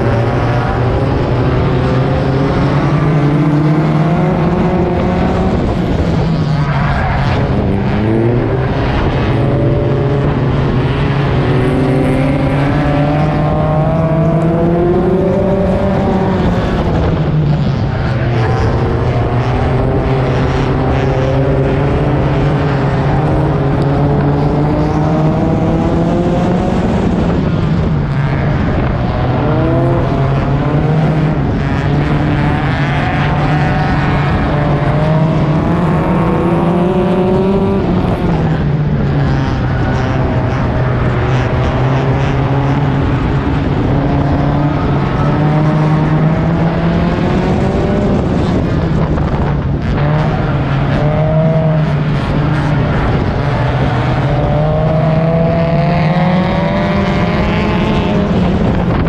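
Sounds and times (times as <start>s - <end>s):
other race cars: 0.0s - 59.0s
race car engine revving: 0.0s - 59.0s.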